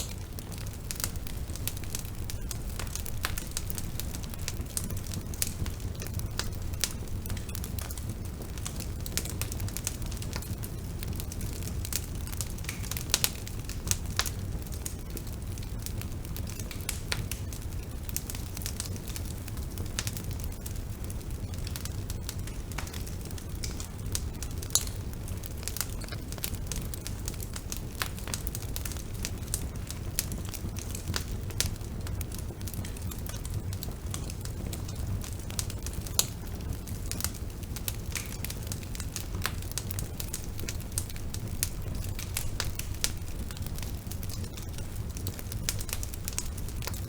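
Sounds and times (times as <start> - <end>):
bonfire crackling and popping: 0.0 - 47.0.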